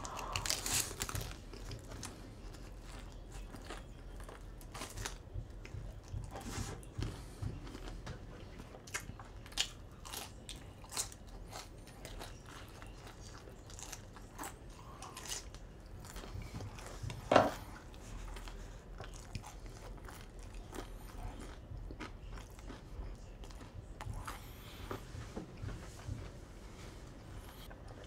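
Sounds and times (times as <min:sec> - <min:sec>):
person chewing crunchy food: 0:00.0 - 0:25.2.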